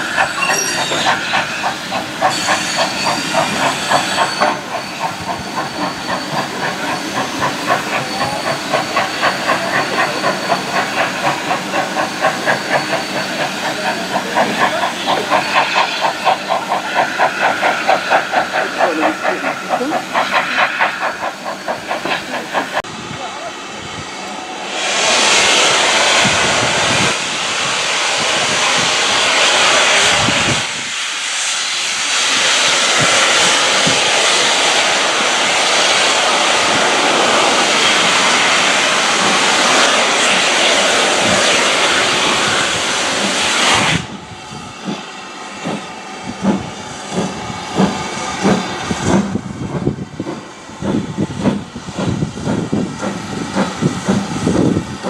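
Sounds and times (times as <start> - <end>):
steam locomotive hissing steam: 0.0 - 55.0.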